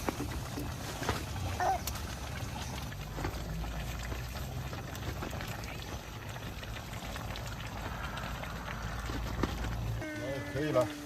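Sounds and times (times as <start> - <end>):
stew bubbling and crackling: 0.0 - 11.0.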